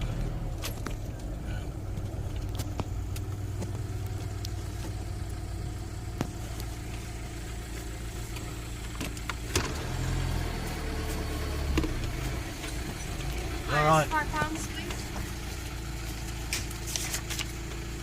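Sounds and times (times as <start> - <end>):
engine running at low speed: 0.0 - 18.0.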